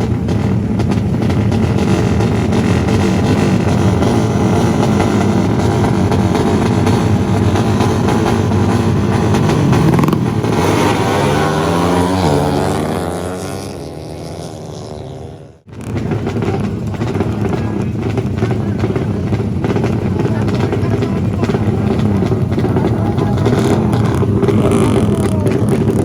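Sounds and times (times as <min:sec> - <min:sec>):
loud motorcycle engine: 0:00.0 - 0:26.0.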